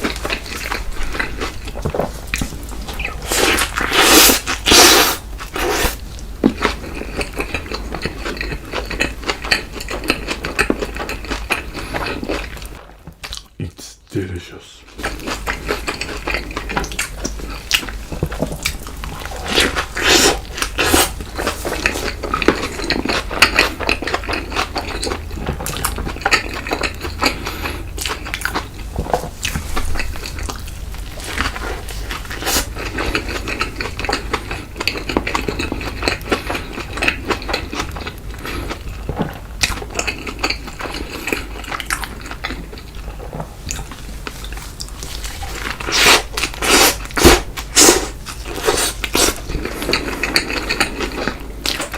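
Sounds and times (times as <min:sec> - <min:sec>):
person eating crunchy food: 0:00.0 - 0:13.6, 0:14.9 - 0:51.9.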